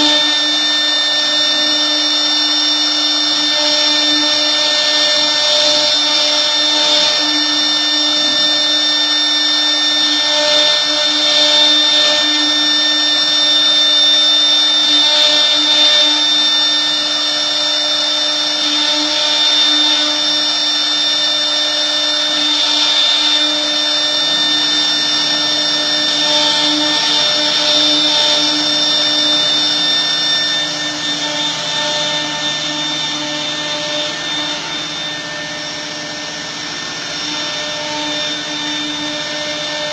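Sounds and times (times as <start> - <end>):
cnc router spindle whine: 0.0 - 39.9.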